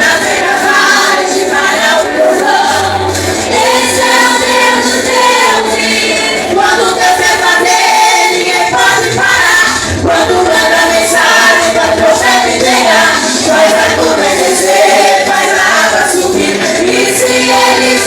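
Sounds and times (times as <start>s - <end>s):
backing music: 0.0s - 18.0s
group singing worship song: 0.0s - 18.0s.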